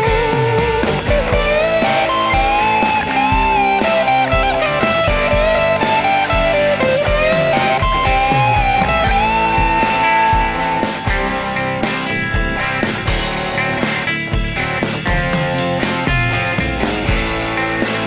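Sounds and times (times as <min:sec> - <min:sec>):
electric guitar melody: 0:00.0 - 0:18.0
steady drum beat: 0:00.0 - 0:18.0.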